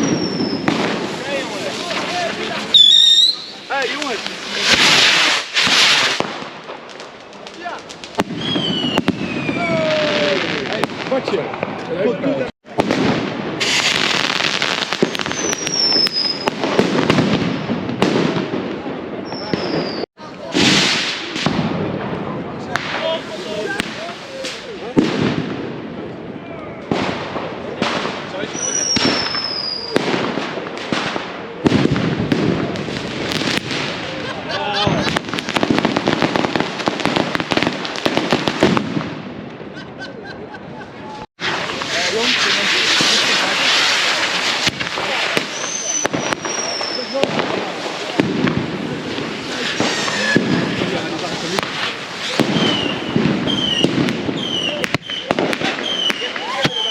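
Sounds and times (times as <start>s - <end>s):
whistling firework: 0.0s - 6.6s, 7.3s - 11.2s, 12.8s - 18.5s, 19.2s - 21.8s, 26.9s - 39.1s, 41.1s - 56.9s
firecrackers cracking and banging: 0.0s - 12.0s, 12.6s - 26.2s, 26.8s - 39.9s, 40.6s - 56.9s.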